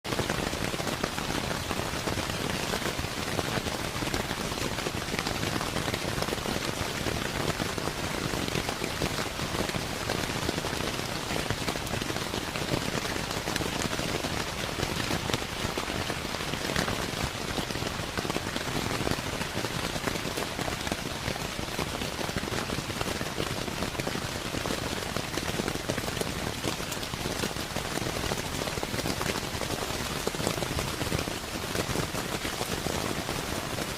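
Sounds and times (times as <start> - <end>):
rain pattering on a roof: 0.0 - 33.9.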